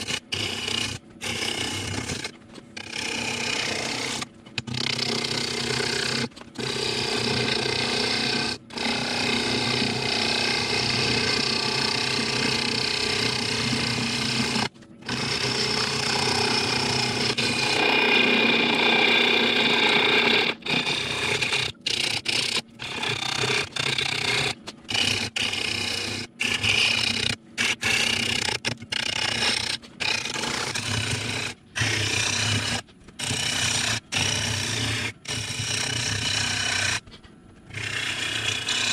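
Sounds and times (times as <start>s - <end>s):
gouge cutting wood on a lathe: 0.0s - 37.0s, 37.7s - 38.9s.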